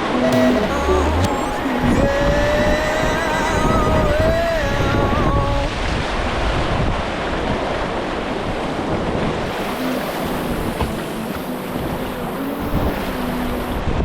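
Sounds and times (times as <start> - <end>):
river rapid rushing: 0.0 - 14.0.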